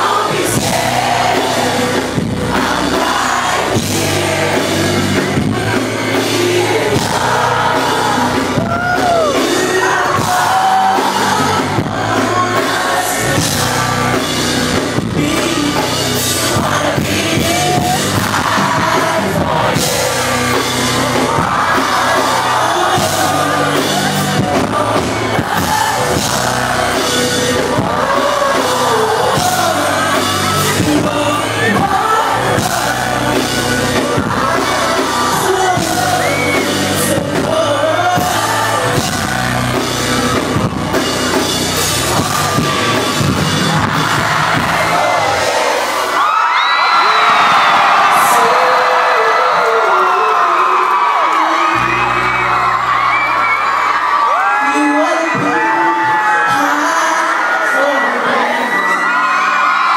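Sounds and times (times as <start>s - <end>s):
man singing: 0.0s - 40.5s, 48.1s - 52.4s, 54.4s - 59.0s
live rock band playing: 0.0s - 59.9s.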